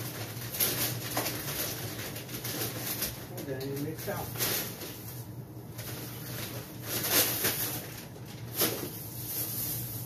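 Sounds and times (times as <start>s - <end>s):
plastic bags rustling: 0.0s - 10.0s.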